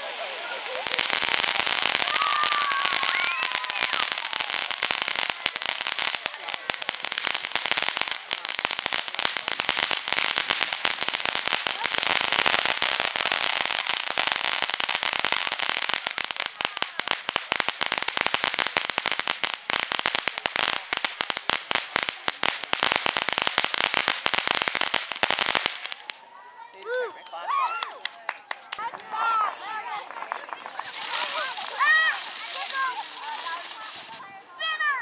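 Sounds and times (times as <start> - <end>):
fireworks hissing and crackling: 0.0 - 26.2, 29.1 - 34.4.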